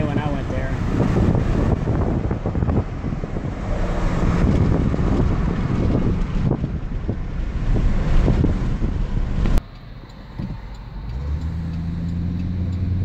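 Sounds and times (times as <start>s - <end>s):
steady engine hum: 0.0s - 13.0s
wind and road noise: 0.0s - 13.0s.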